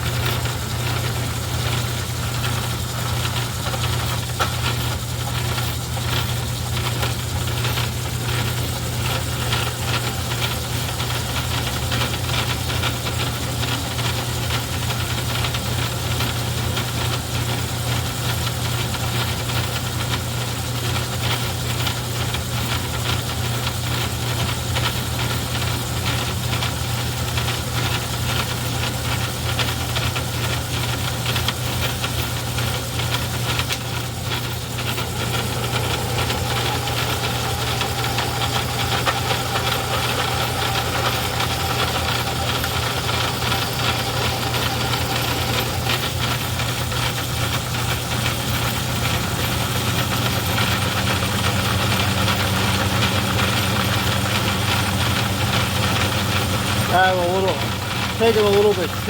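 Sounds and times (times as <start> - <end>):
lathe motor hum: 0.0 - 18.5, 24.0 - 59.0
fast clatter from drive: 0.0 - 59.0.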